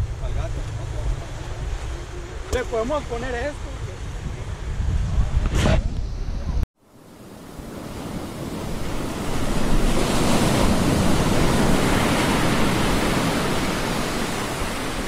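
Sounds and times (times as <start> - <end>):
ocean surf breaking on beach: 0.0 - 4.8, 6.8 - 15.0.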